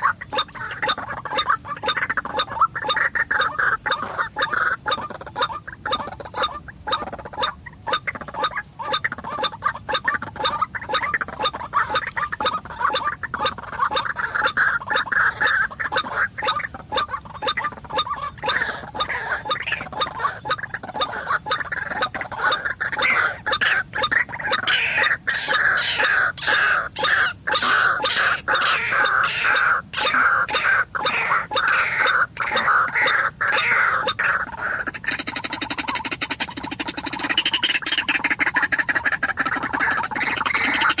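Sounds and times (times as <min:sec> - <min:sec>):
bird calling harsh repeated notes: 0:00.0 - 0:41.0.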